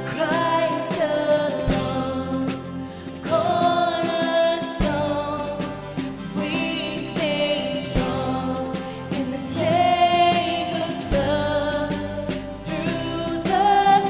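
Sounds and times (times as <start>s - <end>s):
instrumental accompaniment: 0.0s - 14.0s
voices singing worship song: 0.0s - 14.0s.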